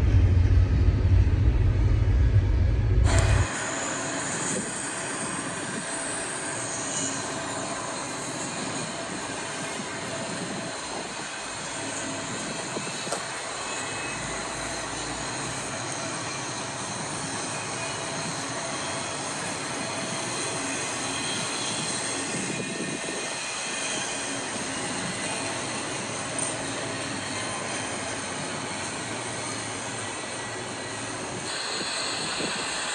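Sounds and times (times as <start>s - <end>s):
freight train wheels on rails: 3.0s - 32.9s.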